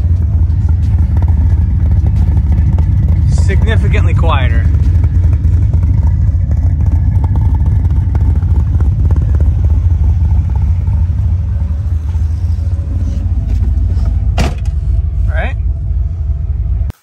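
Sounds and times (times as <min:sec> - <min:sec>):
v eight engine idling: 0:00.0 - 0:17.0.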